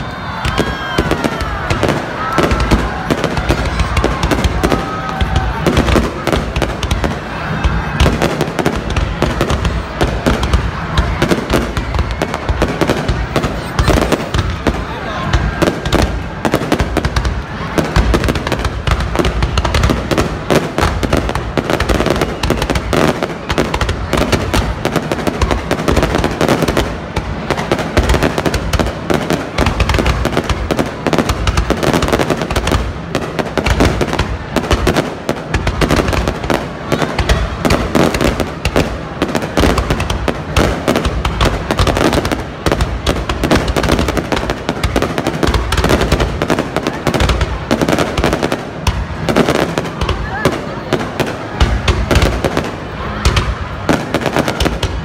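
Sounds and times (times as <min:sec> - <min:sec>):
deep fireworks booms: 0:00.0 - 0:55.0
fireworks crackling: 0:00.0 - 0:55.0.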